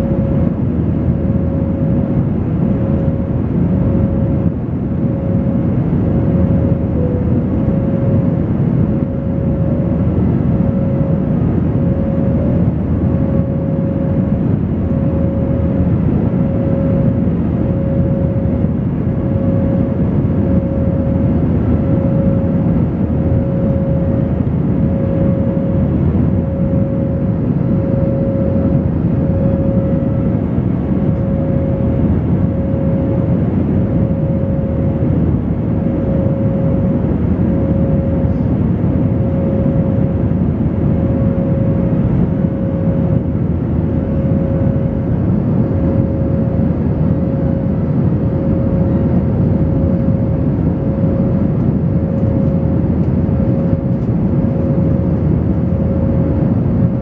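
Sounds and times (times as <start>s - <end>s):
jet engine cabin drone: 0.0s - 57.0s
pulsing humming tone: 0.0s - 57.0s.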